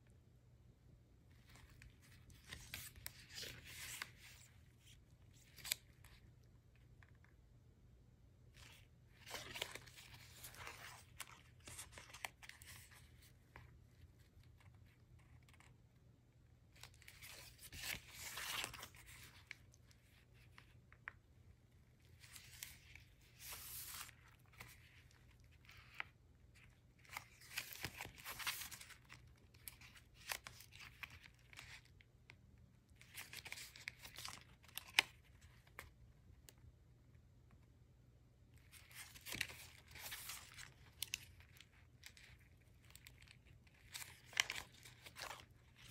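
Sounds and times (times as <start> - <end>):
paper pages rustling: 1.3 - 7.3, 8.5 - 15.8, 16.7 - 21.2, 21.8 - 32.0, 32.9 - 36.6, 38.6 - 45.9.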